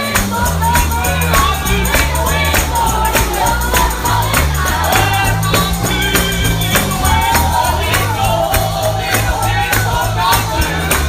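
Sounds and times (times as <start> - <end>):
group singing gospel: 0.0 - 11.0
low bass notes: 0.0 - 11.0
tambourine rhythm: 0.0 - 11.0.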